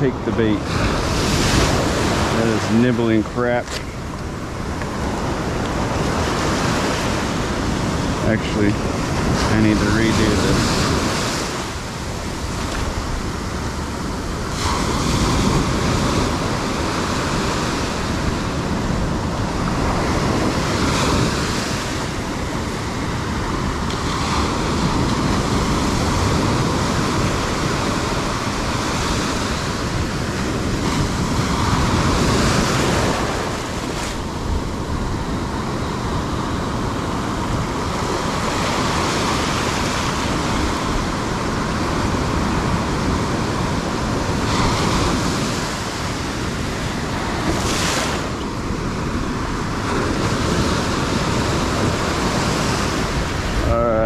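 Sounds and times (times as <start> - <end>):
ocean surf washing on sand: 0.0 - 54.0.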